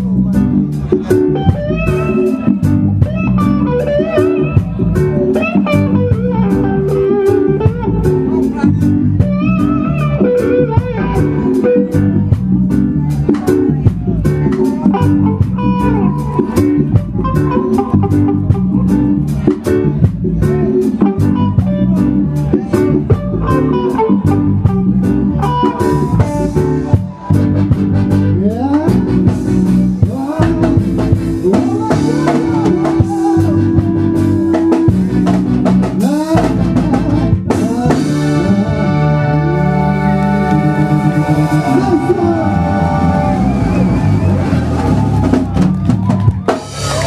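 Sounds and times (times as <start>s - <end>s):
band with guitar bass and drums: 0.0s - 47.0s.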